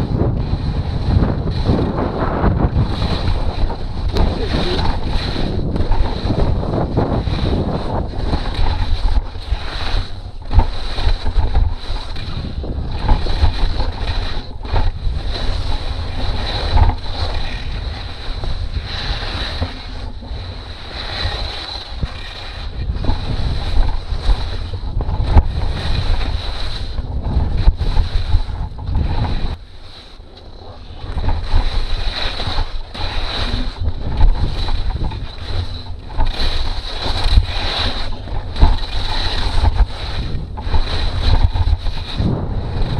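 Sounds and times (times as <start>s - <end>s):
skis scraping over snow: 0.0s - 42.9s
wind buffeting microphone: 0.0s - 42.9s.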